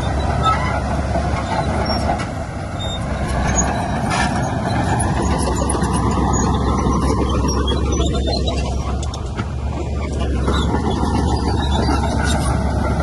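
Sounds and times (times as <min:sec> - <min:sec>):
heavy diesel machinery rumbling: 0:00.0 - 0:13.0.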